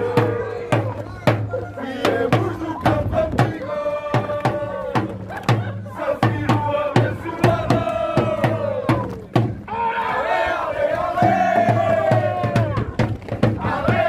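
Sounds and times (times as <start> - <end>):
drum beating steadily: 0.0 - 9.8, 10.6 - 14.0
crowd chanting in unison: 0.0 - 12.9, 13.5 - 14.0.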